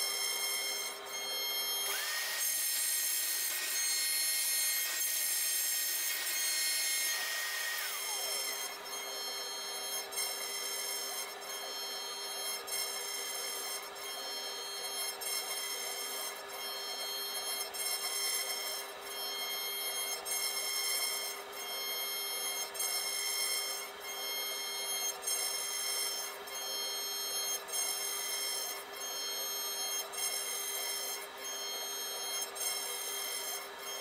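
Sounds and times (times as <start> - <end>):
bit cutting into wood: 0.0 - 13.8, 14.4 - 34.0
router spindle whining: 0.0 - 34.0.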